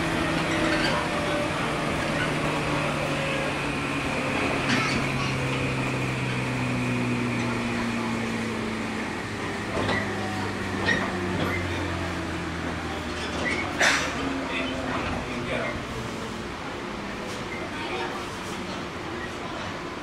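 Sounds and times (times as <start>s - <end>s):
train rolling noise: 0.0s - 20.0s.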